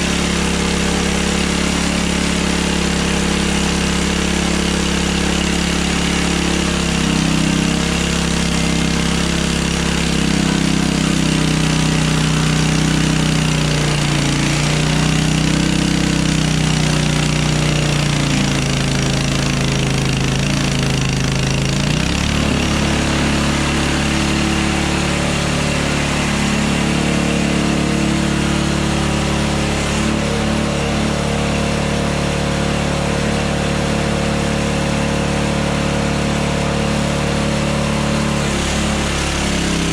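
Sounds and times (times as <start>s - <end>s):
band sawmill engine running: 0.0s - 39.9s.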